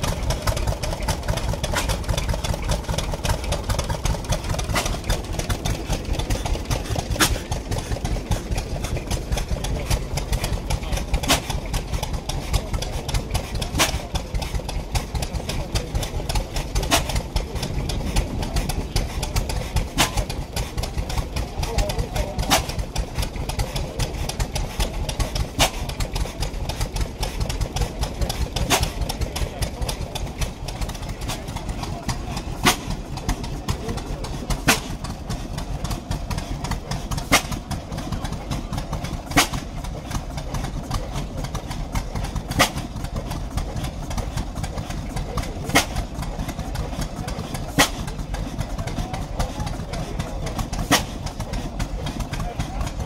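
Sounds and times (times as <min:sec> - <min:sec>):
engine sharp pop: 0:00.0 - 0:53.0
stationary engine chugging: 0:00.0 - 0:53.0.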